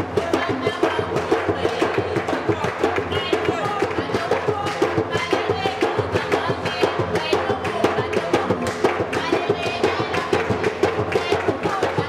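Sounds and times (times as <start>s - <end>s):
fast percussion beat: 0.0s - 12.0s.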